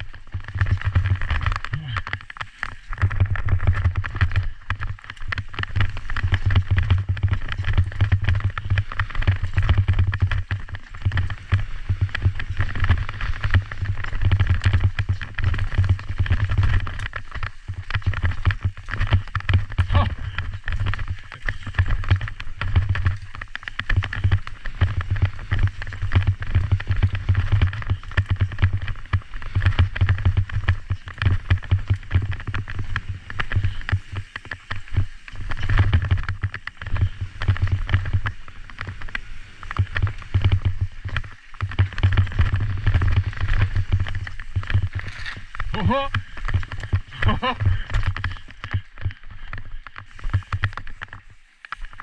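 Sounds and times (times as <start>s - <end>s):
bike knocks and rattles: 0.0s - 52.0s
bike tyres rolling over dirt: 0.0s - 52.0s
wind rumble on microphone: 0.0s - 52.0s.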